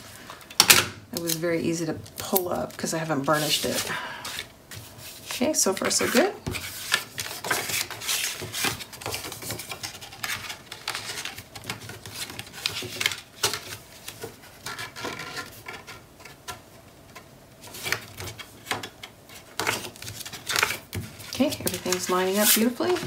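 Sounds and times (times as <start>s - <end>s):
paper rustling and sliding: 2.8s - 16.4s, 17.6s - 23.0s.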